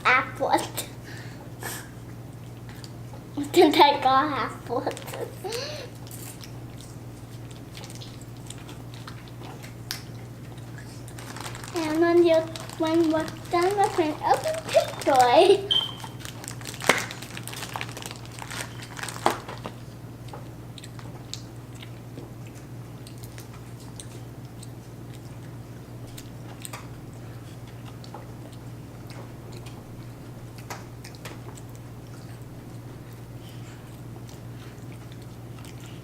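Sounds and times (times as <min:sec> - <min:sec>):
children chewing food: 0:00.0 - 0:36.0.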